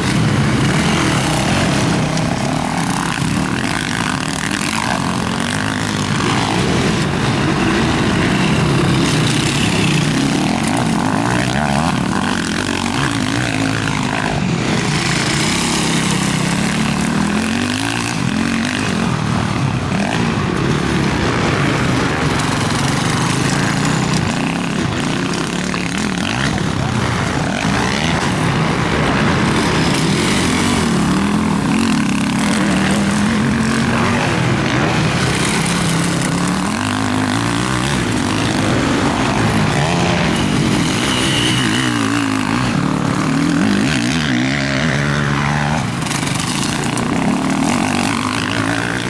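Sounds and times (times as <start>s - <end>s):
motocross bikes passing by: 0.0s - 49.0s.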